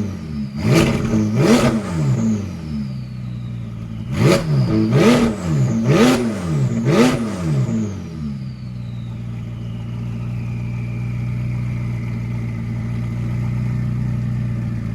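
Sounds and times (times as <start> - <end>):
car engine revving: 0.0 - 14.7
exhaust cracks: 0.0 - 14.7
car engine idling: 0.0 - 14.9
high whistle falling in pitch: 0.7 - 12.7.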